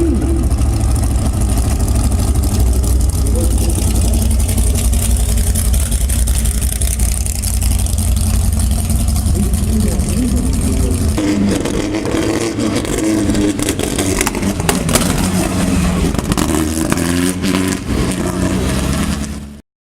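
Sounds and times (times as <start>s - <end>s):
race car engines running: 0.0s - 19.6s.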